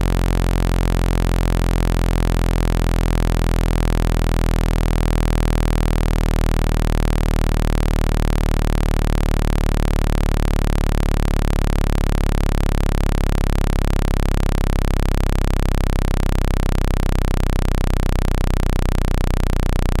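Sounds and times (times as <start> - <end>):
low electronic hum with fast pulse: 0.0 - 20.0.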